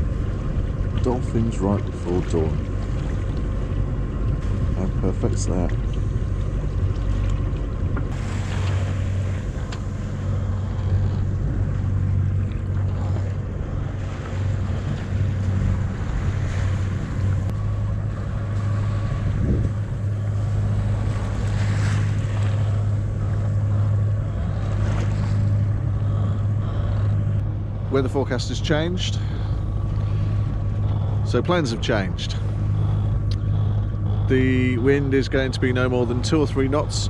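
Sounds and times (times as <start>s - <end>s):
boat engine humming: 0.0s - 37.0s
water rushing past hull: 0.0s - 37.0s
wind on microphone: 5.6s - 36.8s.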